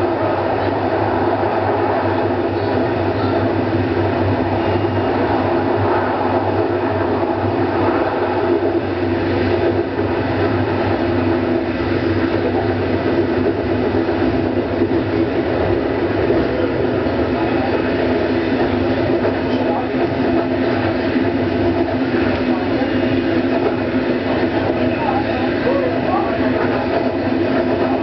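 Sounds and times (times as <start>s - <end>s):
train wheel and rail noise: 0.0s - 28.0s.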